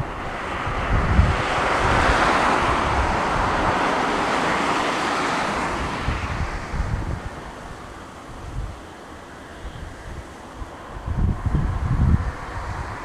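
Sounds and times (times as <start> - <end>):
jet airliner engine rush: 0.0 - 13.0
wind buffeting microphone: 0.0 - 13.0.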